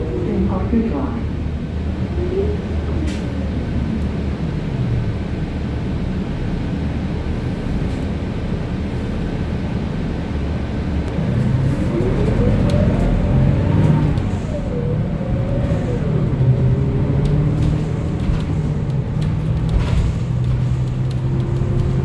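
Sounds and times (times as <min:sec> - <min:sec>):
bus engine whine: 0:00.0 - 0:22.0
low engine drone: 0:00.0 - 0:22.0.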